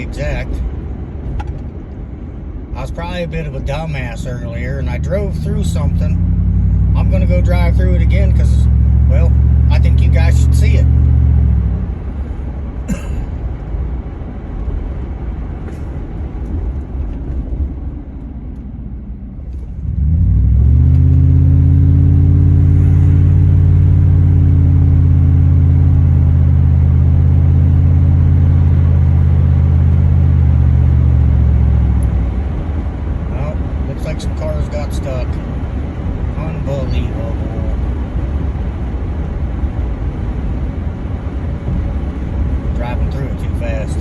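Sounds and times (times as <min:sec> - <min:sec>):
vehicle engine drone: 0:00.0 - 0:44.0.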